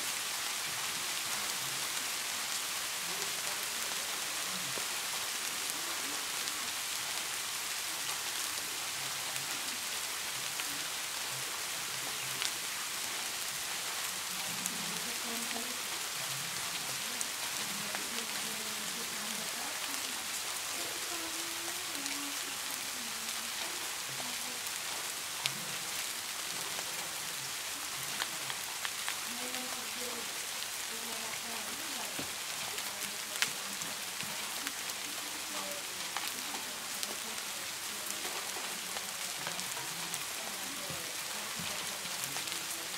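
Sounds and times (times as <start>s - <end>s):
faint muffled voices: 0.0s - 42.9s
steady rain-like hiss: 0.0s - 42.9s.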